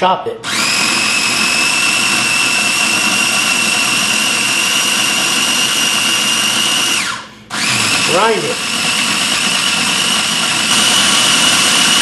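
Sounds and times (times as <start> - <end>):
food processor whining: 0.4 - 12.0.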